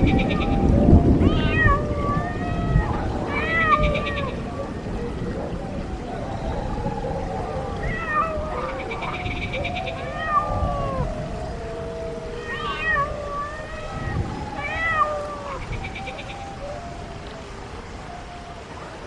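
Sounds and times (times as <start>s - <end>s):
animal calls gliding in pitch: 0.0s - 19.0s.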